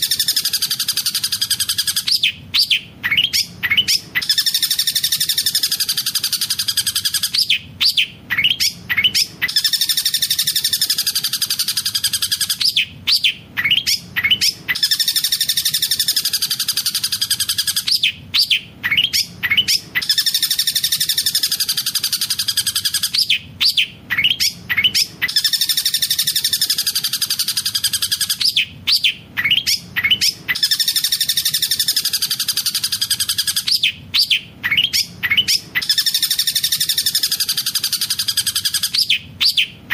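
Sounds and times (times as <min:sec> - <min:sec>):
bird song rapid high chatter: 0:00.0 - 0:39.9
sharp bird calls: 0:00.0 - 0:39.9.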